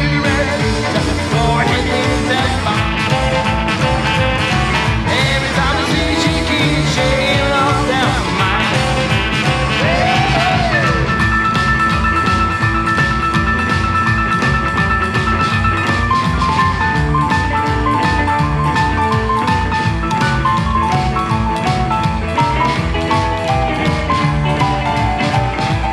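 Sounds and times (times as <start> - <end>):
rockabilly music: 0.0 - 25.9.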